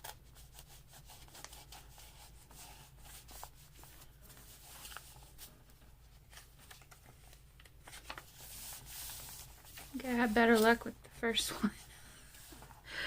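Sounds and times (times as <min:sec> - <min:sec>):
paper rustling: 0:00.0 - 0:12.8.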